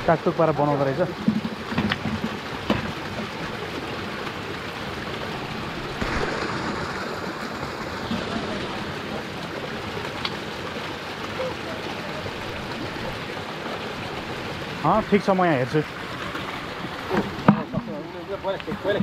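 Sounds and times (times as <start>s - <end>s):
water splashing from hose: 0.0s - 19.0s.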